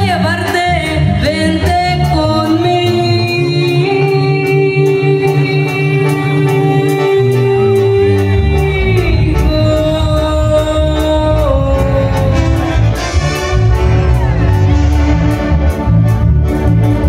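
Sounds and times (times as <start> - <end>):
stepping bass line: 0.0 - 17.0.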